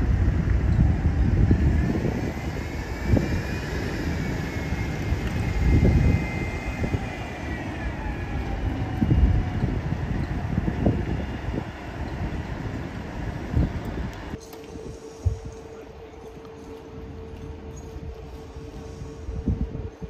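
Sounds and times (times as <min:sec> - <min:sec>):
bus diesel engine with whine: 0:00.0 - 0:20.0
traffic rumble: 0:00.0 - 0:20.0.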